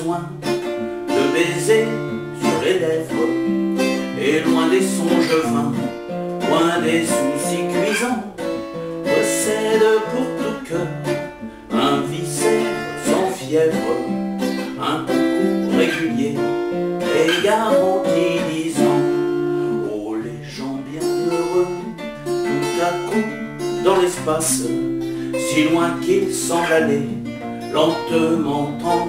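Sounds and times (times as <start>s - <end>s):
acoustic guitar plucked: 0.0s - 29.0s
man singing: 0.0s - 29.0s.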